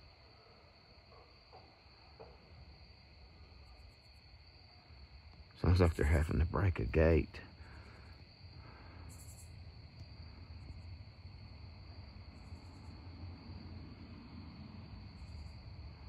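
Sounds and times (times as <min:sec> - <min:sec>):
crickets trilling: 0:00.0 - 0:16.0
high insect chirps: 0:00.0 - 0:16.0.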